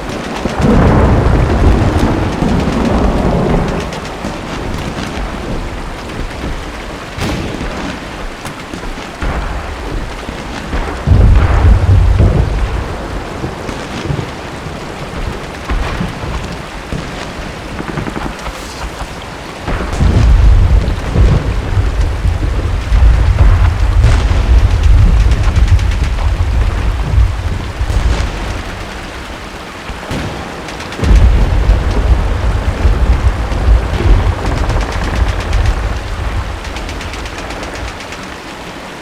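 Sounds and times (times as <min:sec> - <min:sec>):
sharp thunder cracks: 0:00.0 - 0:38.4
heavy rain: 0:00.0 - 0:39.0
rolling thunder: 0:00.0 - 0:39.0.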